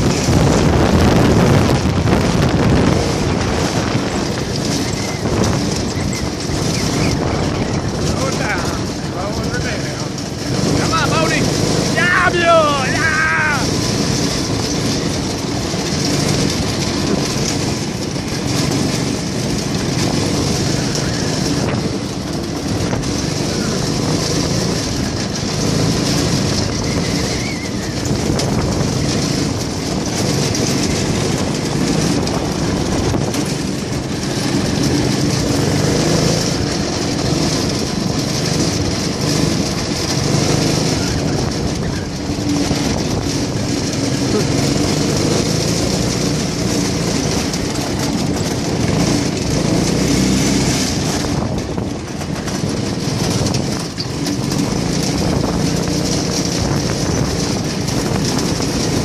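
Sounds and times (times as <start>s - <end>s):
go-kart engine running: 0.0s - 59.0s
road noise: 0.0s - 59.0s.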